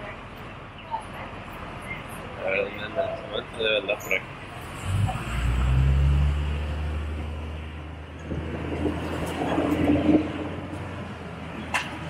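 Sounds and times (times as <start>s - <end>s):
city traffic noise: 0.0s - 12.0s
large vehicle engine rumbling: 0.0s - 12.0s.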